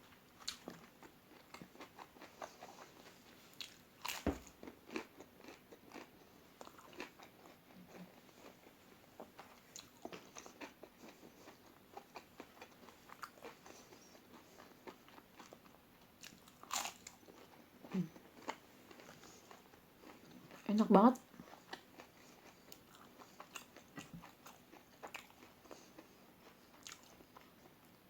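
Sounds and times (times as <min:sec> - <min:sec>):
person chewing crispy food: 0:00.1 - 0:27.9.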